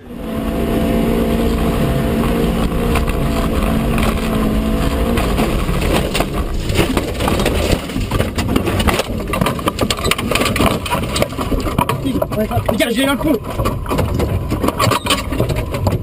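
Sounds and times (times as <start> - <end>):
car engine running hard: 0.0 - 16.0
road and wind noise: 0.0 - 16.0
rattling and knocks: 1.6 - 16.0.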